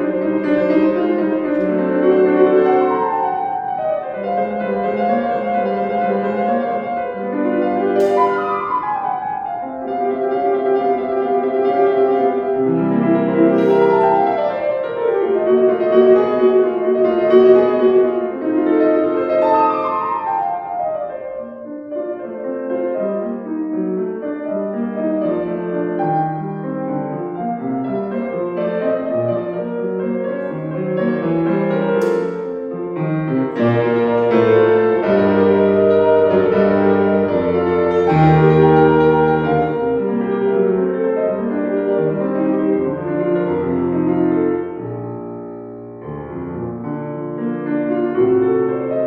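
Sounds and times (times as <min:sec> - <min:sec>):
solo piano classical piece: 0:00.0 - 0:49.0.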